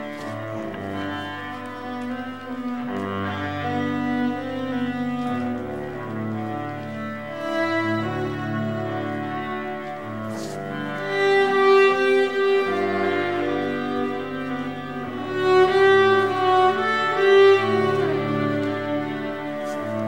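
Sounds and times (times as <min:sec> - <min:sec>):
violin and cello playing: 0:00.0 - 0:20.0.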